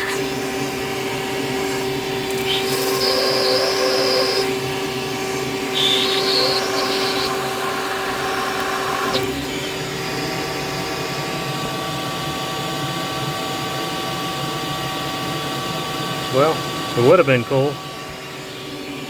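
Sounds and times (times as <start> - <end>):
shop vac running: 0.0 - 19.0.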